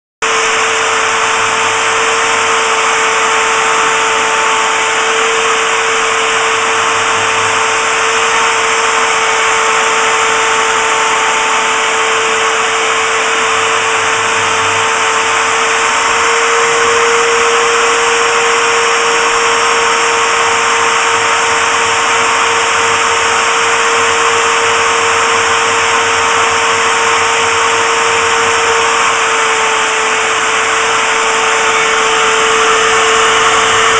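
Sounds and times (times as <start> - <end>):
constant rushing noise: 0.2 - 33.9
spindle motor high whine: 0.2 - 33.9.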